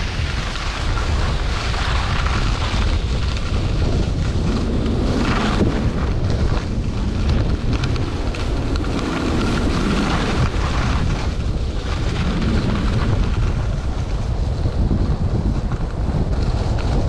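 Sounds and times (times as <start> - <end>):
skis hissing over snow: 0.0 - 14.6, 16.3 - 17.0
wind buffeting microphone: 0.0 - 17.0.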